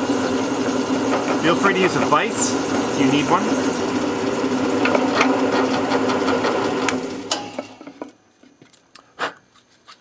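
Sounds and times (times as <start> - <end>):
drill press boring plastic pipe: 0.0 - 8.1.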